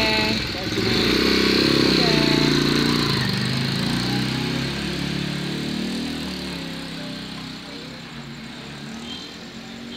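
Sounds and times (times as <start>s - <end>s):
motorcycle engine pulling away: 0.0s - 9.0s.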